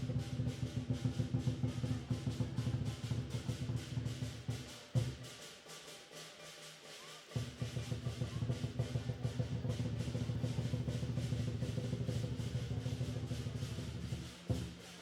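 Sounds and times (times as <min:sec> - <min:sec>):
low drum roll: 0:00.0 - 0:06.2, 0:07.3 - 0:15.0.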